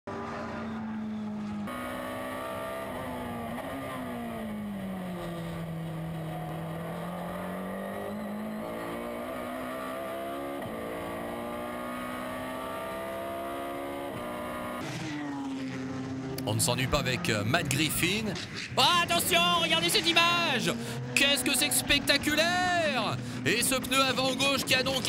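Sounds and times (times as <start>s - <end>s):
race car engine at speed: 0.1s - 25.0s.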